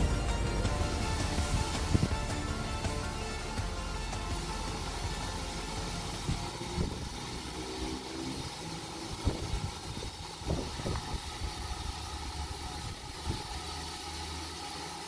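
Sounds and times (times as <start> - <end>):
steam locomotive rumble: 0.0 - 15.0.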